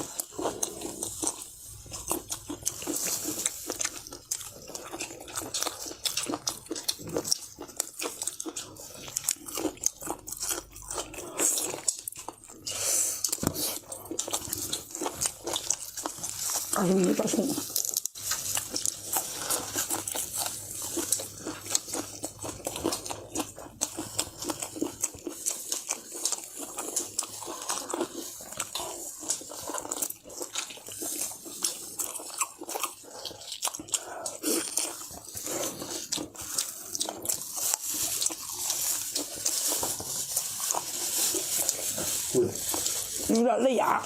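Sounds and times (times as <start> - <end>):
chewing and crunching food: 0.0 - 44.0.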